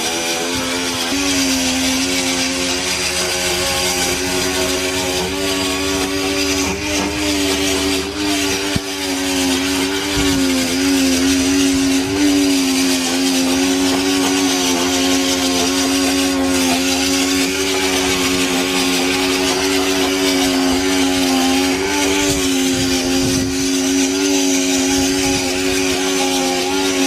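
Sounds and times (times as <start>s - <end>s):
pressure washer motor hum: 0.0s - 27.0s.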